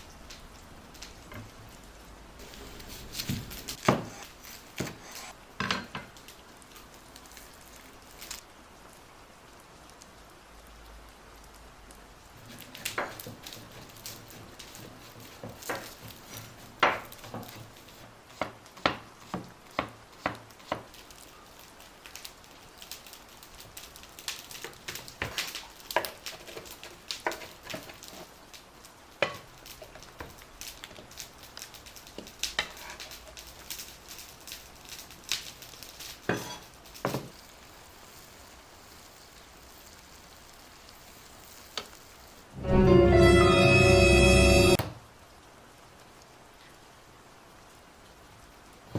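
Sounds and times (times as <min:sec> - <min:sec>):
food sizzling in a pan: 0:02.4 - 0:48.9.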